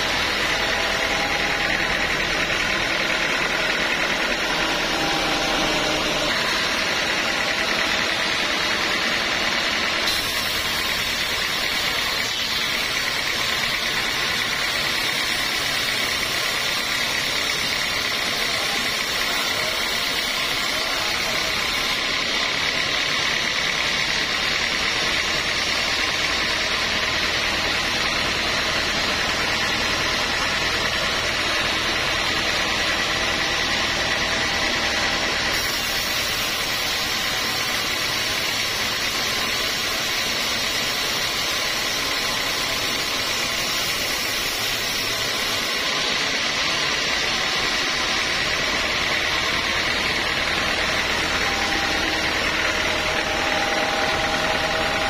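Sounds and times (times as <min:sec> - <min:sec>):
band saw cutting wood: 0:00.0 - 0:55.0
high whine of band saw: 0:00.0 - 0:55.0.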